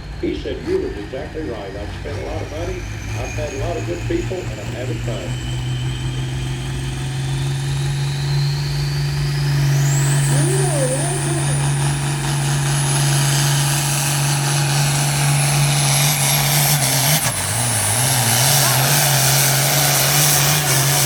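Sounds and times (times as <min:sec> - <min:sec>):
high engine whine: 0:00.0 - 0:21.0
tractor engine running: 0:00.0 - 0:21.0.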